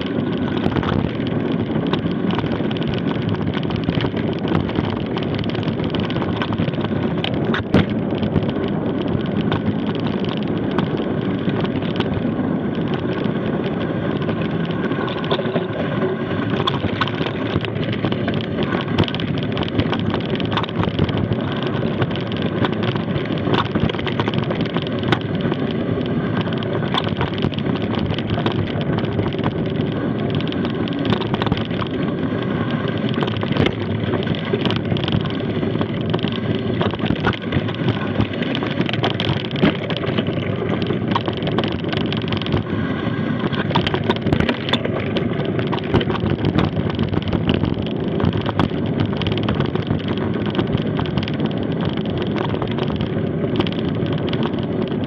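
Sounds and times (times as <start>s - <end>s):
bike clicks and rattles: 0.0s - 55.0s
tyres on loose stones: 0.0s - 55.0s
wind noise on microphone: 0.0s - 55.0s.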